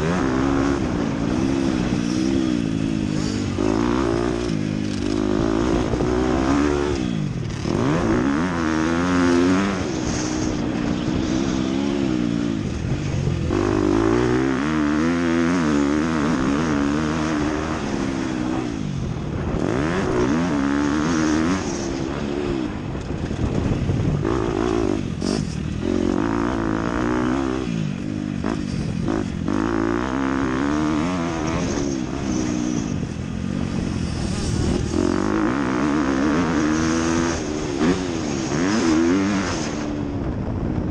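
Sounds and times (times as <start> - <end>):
dirt bike engine revving: 0.0 - 40.2.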